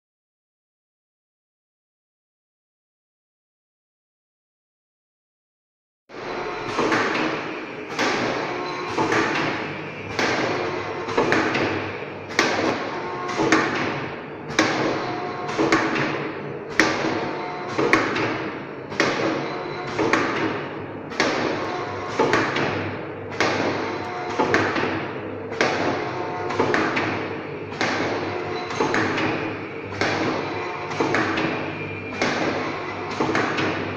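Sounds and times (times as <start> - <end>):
steady machine hum: 6.1 - 33.9.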